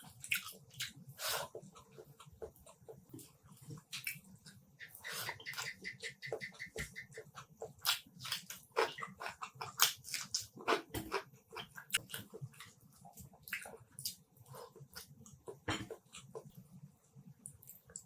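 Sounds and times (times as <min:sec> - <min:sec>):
mouth chewing and smacking: 0:00.0 - 0:16.6.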